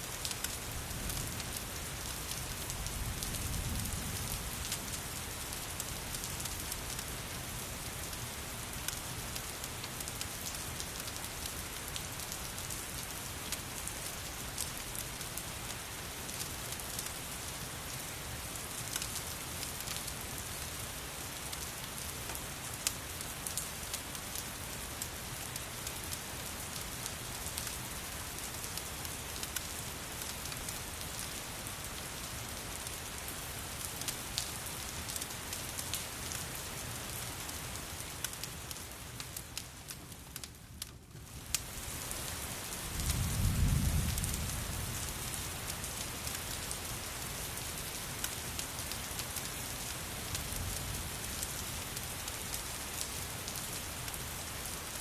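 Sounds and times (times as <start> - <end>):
rain falling: 0.0 - 55.0
wood fire crackling: 0.1 - 3.4, 4.2 - 55.0.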